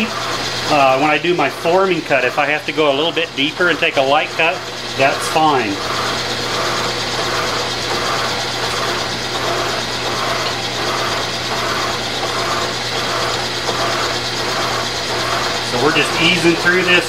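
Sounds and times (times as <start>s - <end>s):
milling machine motor hum: 0.0s - 17.0s
whirring cutter cutting metal: 0.0s - 17.0s.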